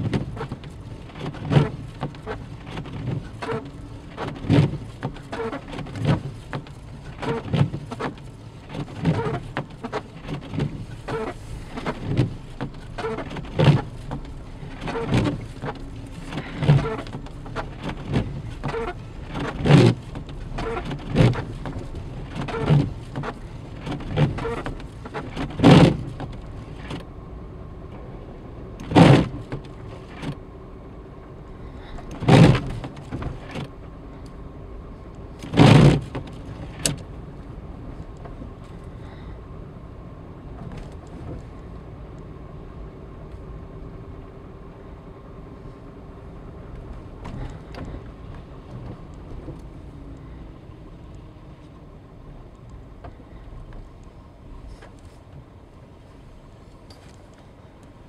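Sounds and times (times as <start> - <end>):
car engine and road hum: 0.0 - 58.0.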